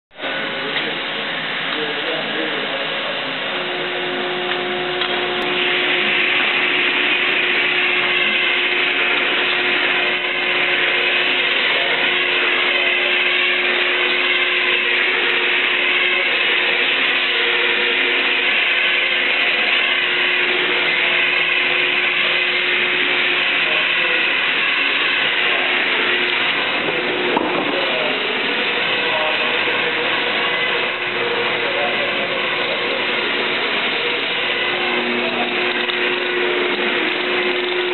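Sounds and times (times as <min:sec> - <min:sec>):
machine whirring with whine: 0:00.1 - 0:37.9.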